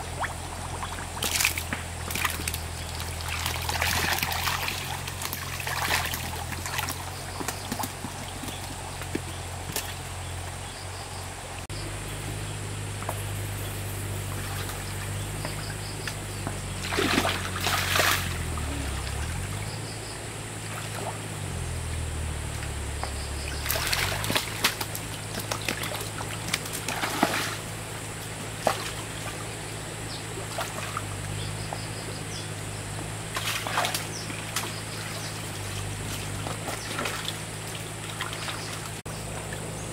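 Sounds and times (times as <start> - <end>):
low motor hum: 0.0 - 39.9
water trickling and splashing: 0.0 - 39.9.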